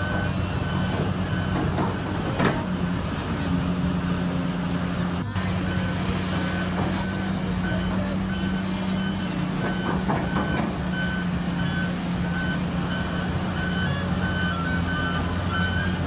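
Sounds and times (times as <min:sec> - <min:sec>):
back-up alarm beeping: 0:00.0 - 0:02.8, 0:04.9 - 0:16.0
diesel engine running: 0:00.0 - 0:16.0.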